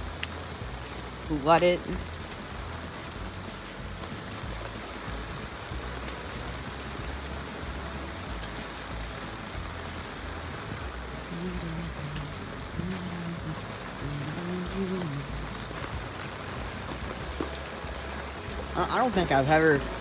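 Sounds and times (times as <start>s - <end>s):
raindrops hitting close by: 0.0s - 20.0s
steady rain hiss: 0.0s - 20.0s.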